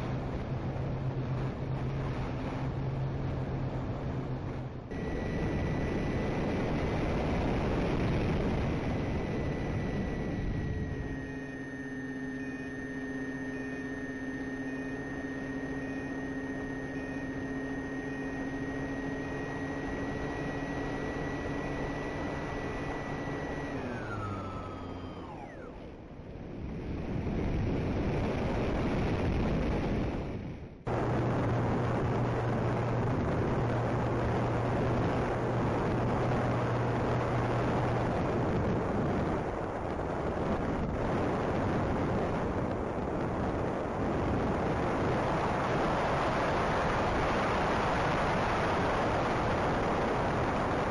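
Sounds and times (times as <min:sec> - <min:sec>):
wind rushing over camera: 0:00.0 - 0:50.9
model airplane motor droning: 0:04.9 - 0:28.9, 0:30.9 - 0:50.9.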